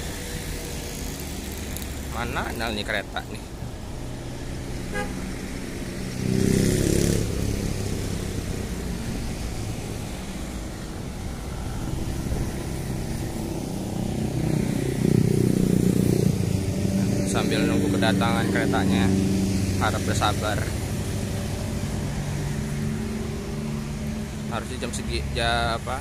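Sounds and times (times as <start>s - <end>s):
motorcycles passing: 0.0s - 26.0s
steady traffic hum: 0.0s - 26.0s.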